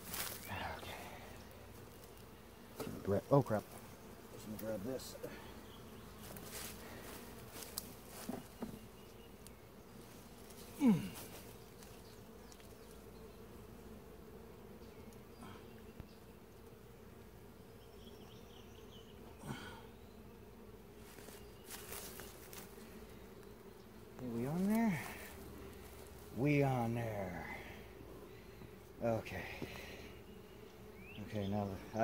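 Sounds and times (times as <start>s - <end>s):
bee flying close past: 0.0s - 32.0s
honeybees buzzing: 0.0s - 32.0s.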